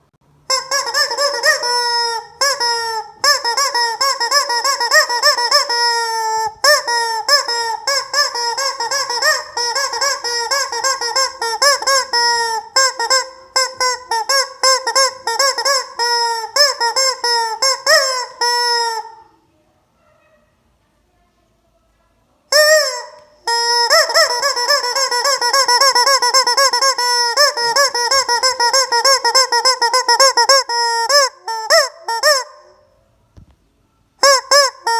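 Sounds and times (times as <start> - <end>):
toy chicken squawking: 0.5 - 19.3, 22.5 - 33.0, 34.2 - 34.9.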